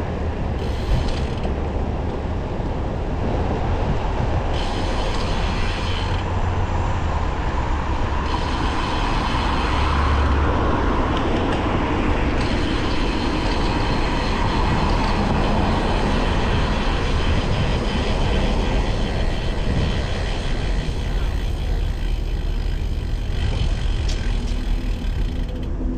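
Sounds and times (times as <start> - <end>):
bike road noise: 0.0 - 25.9
wind buffeting microphone: 0.0 - 25.9.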